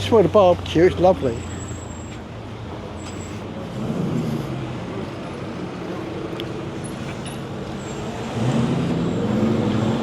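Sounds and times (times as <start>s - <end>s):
passing motor vehicles: 0.0s - 10.0s.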